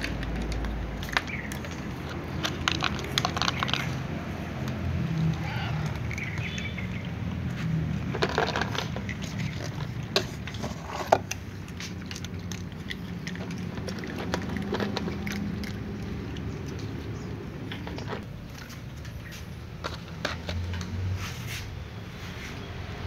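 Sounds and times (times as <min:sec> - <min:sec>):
cat chewing dry kibble: 0:00.0 - 0:21.1.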